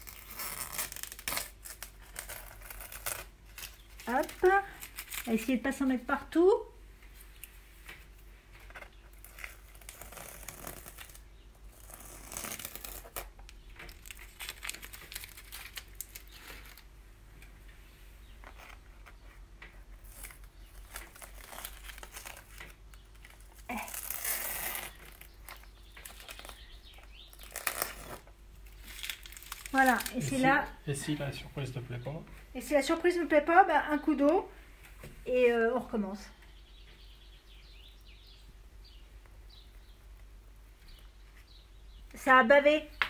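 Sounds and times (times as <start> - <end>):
hands rustling and crinkling materials: 0.0 - 35.2.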